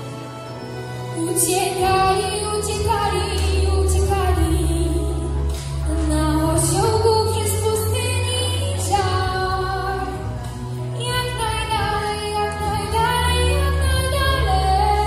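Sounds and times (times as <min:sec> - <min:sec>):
instrumental backing with bass: 0:00.0 - 0:15.0
girl singing into microphone: 0:01.2 - 0:15.0.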